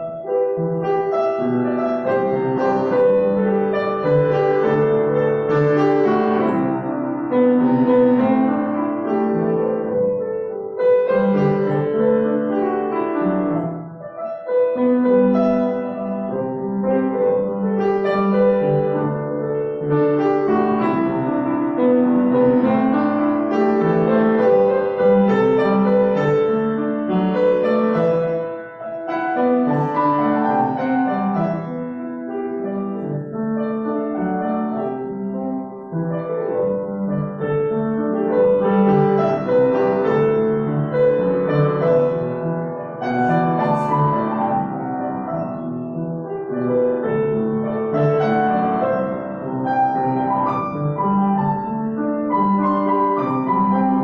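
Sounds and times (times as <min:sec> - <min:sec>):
solo piano music: 0:00.0 - 0:54.0.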